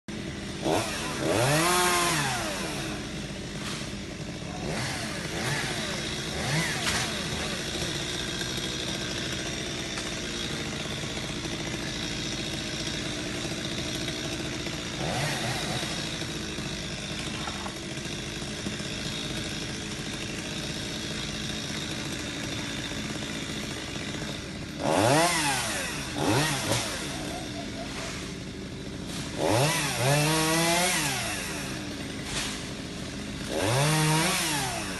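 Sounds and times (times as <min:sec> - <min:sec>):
chainsaw idling and revving: 0:00.1 - 0:34.9.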